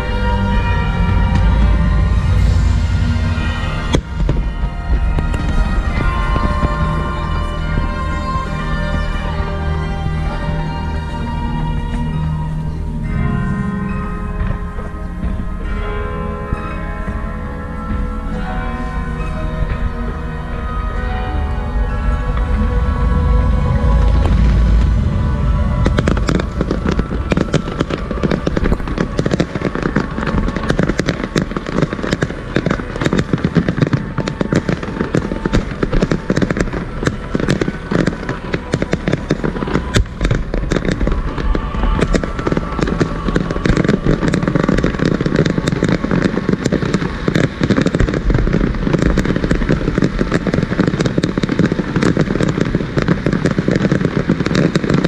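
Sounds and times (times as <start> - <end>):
deep low rumble: 0.0 - 55.0
fireworks bangs and crackles: 0.0 - 55.0.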